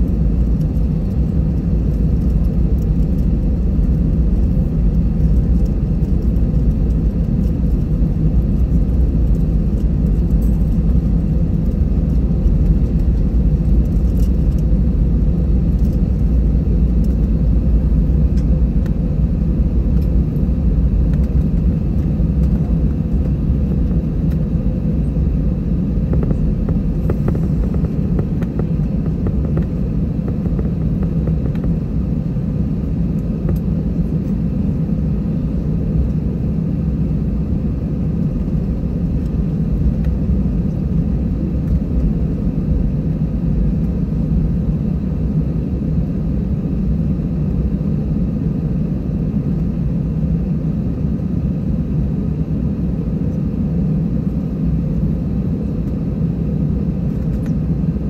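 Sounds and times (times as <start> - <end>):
faint steady hum: 0.0 - 58.0
jet engines idling rumble: 0.0 - 58.0.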